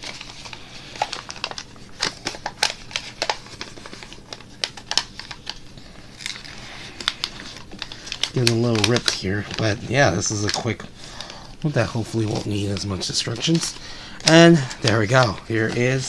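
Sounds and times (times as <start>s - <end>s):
paper crinkling as folded: 0.0s - 16.0s.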